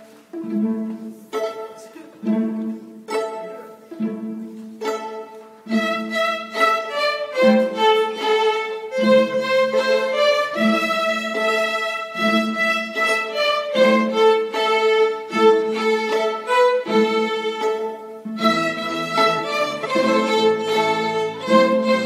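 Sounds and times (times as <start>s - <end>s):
string orchestra playing: 0.0s - 22.0s.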